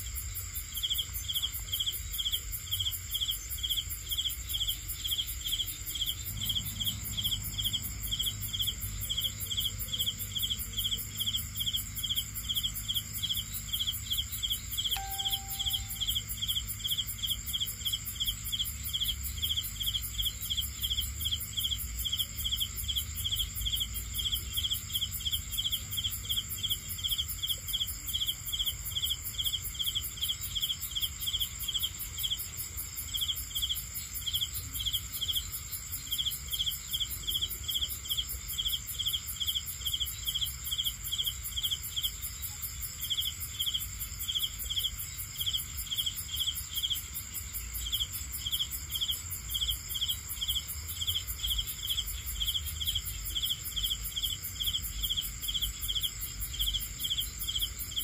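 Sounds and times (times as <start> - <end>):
crickets chirping: 0.0 - 58.0
high-pitched insect trill: 0.0 - 58.0.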